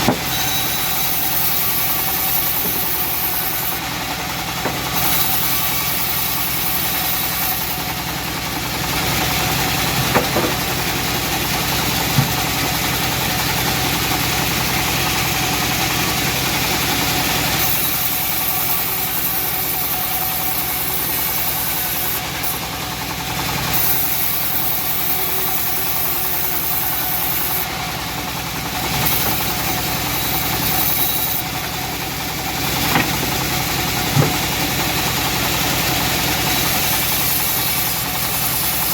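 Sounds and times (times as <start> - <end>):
saw hissing: 0.0 - 15.4, 16.0 - 22.6, 23.7 - 27.7, 28.6 - 38.9
bandsaw mill engine hum: 0.0 - 38.9.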